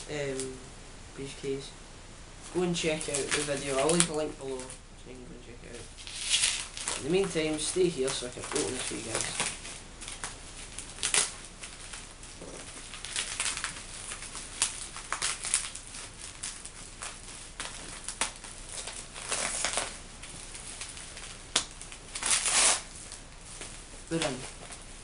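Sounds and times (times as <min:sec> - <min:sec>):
packaging crinkling and tearing: 0:02.5 - 0:04.8, 0:05.7 - 0:24.9.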